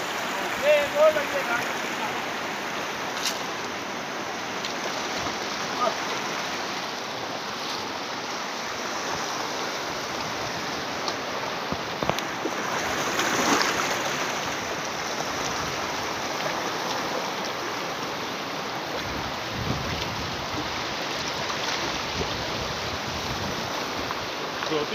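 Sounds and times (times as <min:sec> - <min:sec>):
river rushing over rocks: 0:00.0 - 0:24.9.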